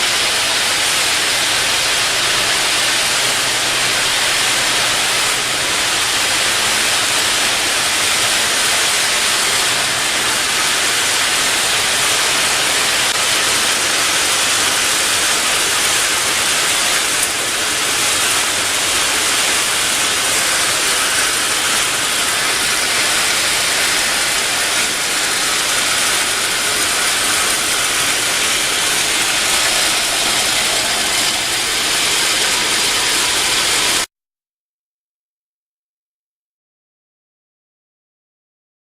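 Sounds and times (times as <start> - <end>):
machine hissing noise: 0.0 - 34.1.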